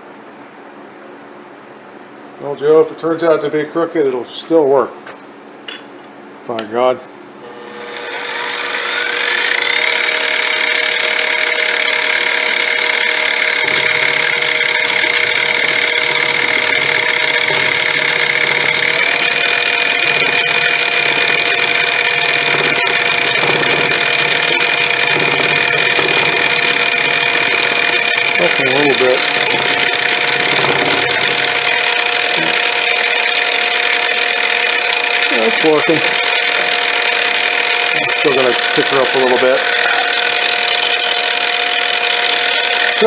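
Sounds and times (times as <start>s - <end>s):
milling machine whine: 7.4s - 43.0s.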